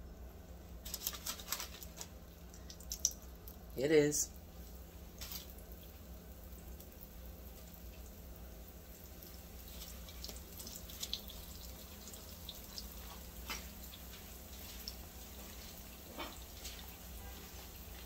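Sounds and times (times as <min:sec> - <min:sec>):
food frying in hot oil: 0:00.7 - 0:18.0.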